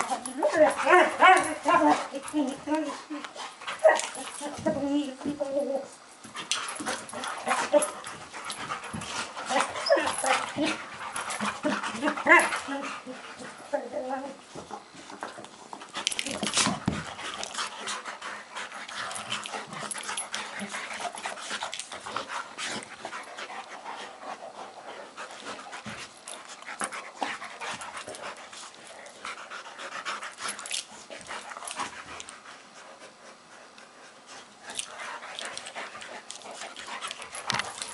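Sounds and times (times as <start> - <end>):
dogs play-fighting scuffles: 0.0 - 37.9.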